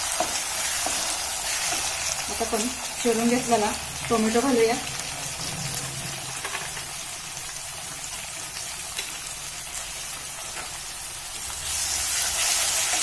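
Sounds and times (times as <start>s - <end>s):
onion and tomato sizzling in oil: 0.0s - 13.0s.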